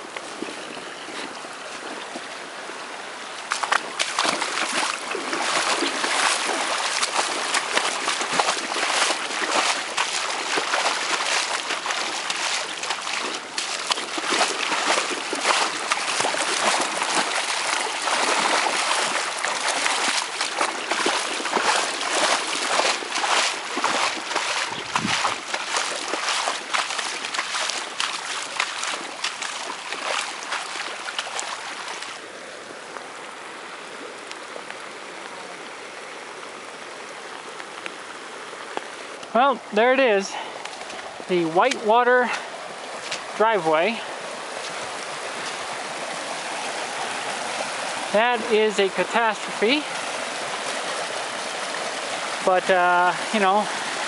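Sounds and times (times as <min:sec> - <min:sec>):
floodwater rushing and splashing: 0:00.0 - 0:54.0.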